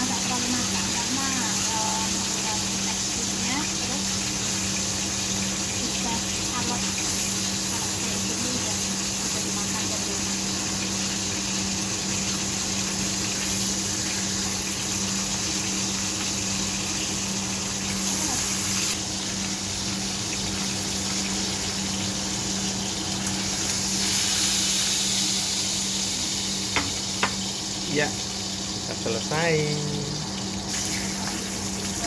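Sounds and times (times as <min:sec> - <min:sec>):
steak sizzling in a frying pan: 0:00.0 - 0:32.0.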